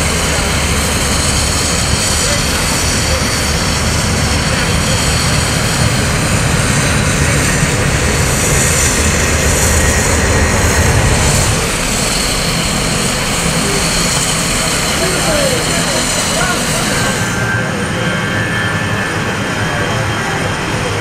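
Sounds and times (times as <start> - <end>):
jet aircraft whine and rumble: 0.0 - 21.0.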